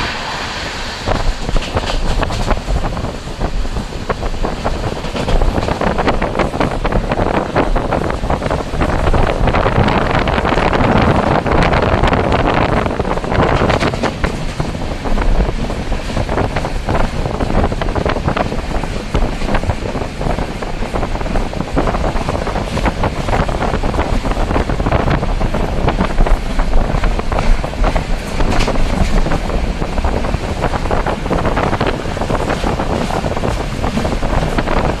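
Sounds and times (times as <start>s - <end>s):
moving train running: 0.0s - 35.0s
wind buffeting microphone: 0.0s - 35.0s.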